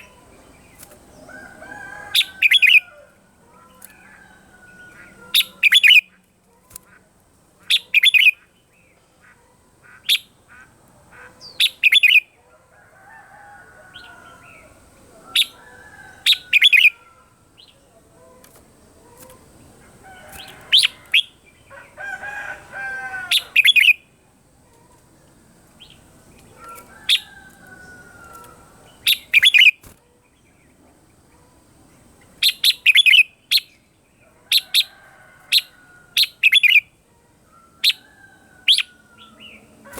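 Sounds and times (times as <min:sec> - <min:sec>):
birds singing bright phrases: 0:00.0 - 0:07.0, 0:07.6 - 0:12.4, 0:13.9 - 0:22.0, 0:23.2 - 0:37.1.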